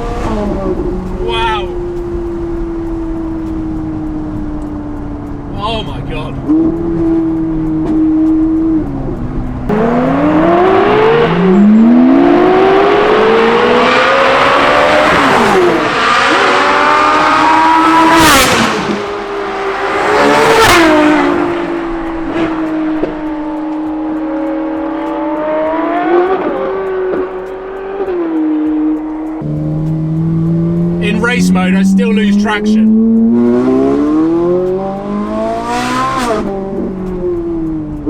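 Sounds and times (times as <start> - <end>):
sports car engine revving through gears: 0.0 - 38.0.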